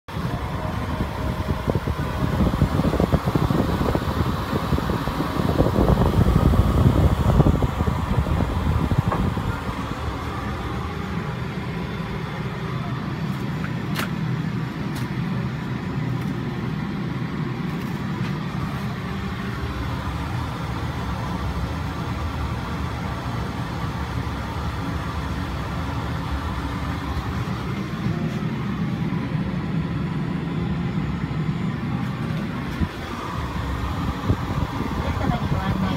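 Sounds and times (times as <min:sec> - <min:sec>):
air vent blowing: 0:00.1 - 0:35.9
aircraft cabin low rumble: 0:00.1 - 0:35.9.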